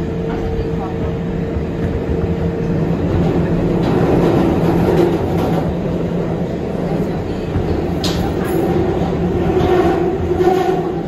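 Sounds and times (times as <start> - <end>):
subway wheels rumbling on rail: 0.0 - 11.0.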